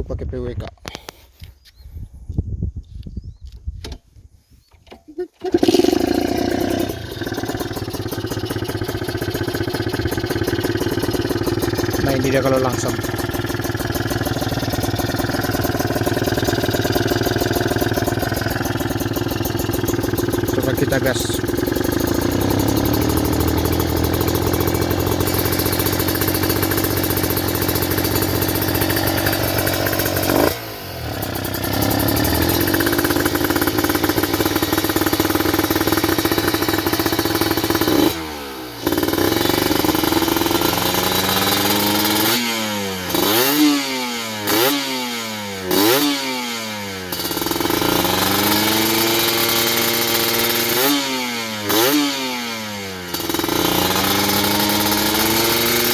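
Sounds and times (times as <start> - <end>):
motorcycle engine revving: 5.4 - 55.9.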